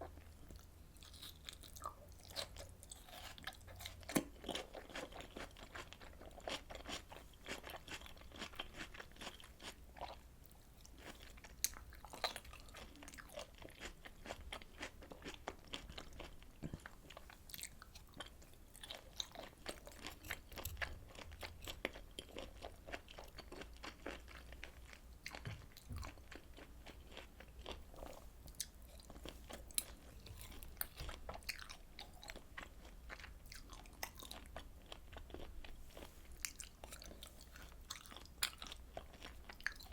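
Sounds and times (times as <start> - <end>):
crunchy chewing and biting: 0.4 - 10.2, 10.8 - 39.9.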